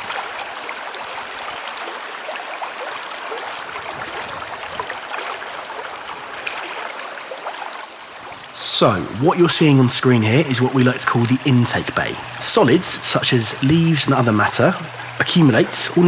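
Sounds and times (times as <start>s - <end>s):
waterfall splashing into pond: 0.0s - 16.0s.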